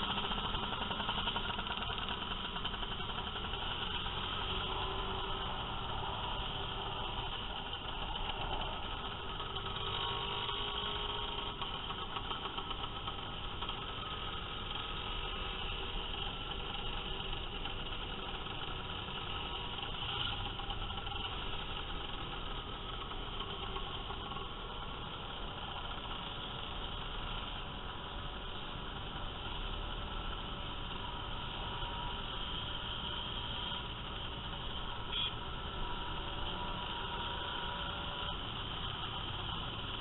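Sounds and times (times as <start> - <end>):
motor scooter engines droning: 0.0 - 40.0.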